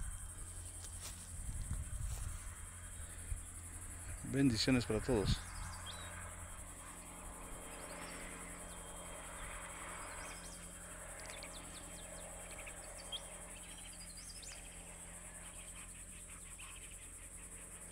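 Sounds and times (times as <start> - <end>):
high insect buzz: 0.0 - 17.9.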